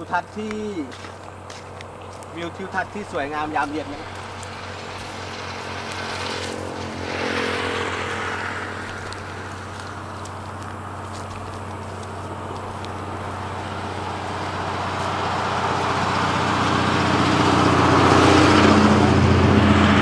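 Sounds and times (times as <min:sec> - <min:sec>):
tyre noise: 0:00.0 - 0:16.8
vehicle engine hum: 0:00.0 - 0:20.0.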